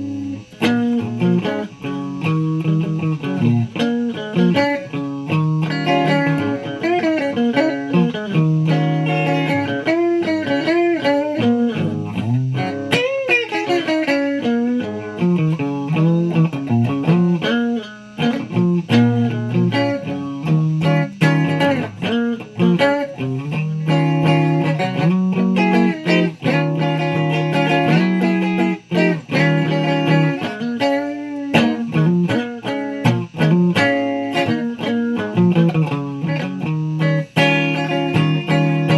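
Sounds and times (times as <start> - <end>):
guitar playing notes and chords: 0.0 - 38.9.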